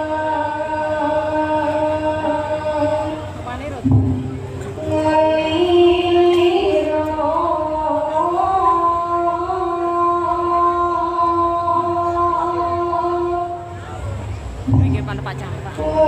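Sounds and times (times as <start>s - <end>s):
woman singing slow melody: 0.0s - 3.4s, 4.7s - 14.0s, 15.8s - 16.0s
backing music: 0.0s - 16.0s.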